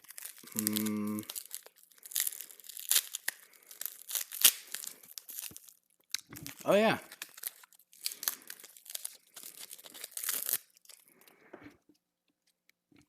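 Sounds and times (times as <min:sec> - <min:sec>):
packing material tearing and crinkling: 0:00.0 - 0:11.1.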